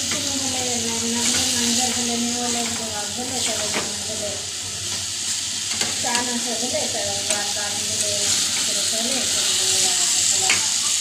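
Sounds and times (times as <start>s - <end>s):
food frying hiss: 0.0s - 11.0s.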